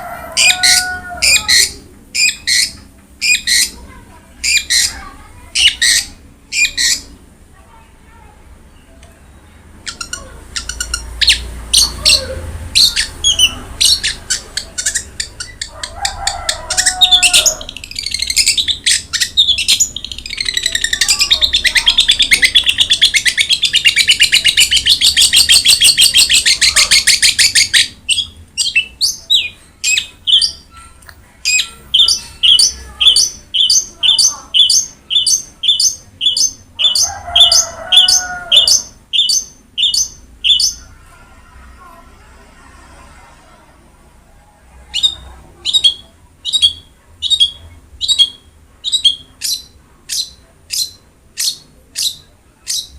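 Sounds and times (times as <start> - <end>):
shrike singing trills and chatter: 0.4 - 7.2, 8.7 - 30.8, 31.4 - 41.1, 44.8 - 52.9.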